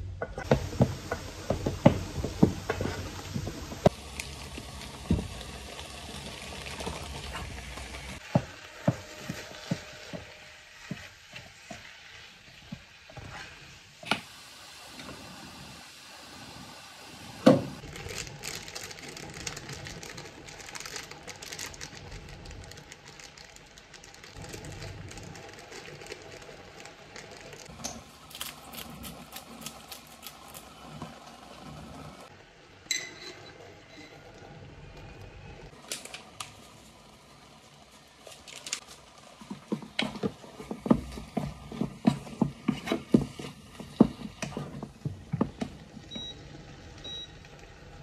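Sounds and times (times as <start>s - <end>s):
beef frying in a saucepan: 0.2s - 35.0s, 35.6s - 48.0s.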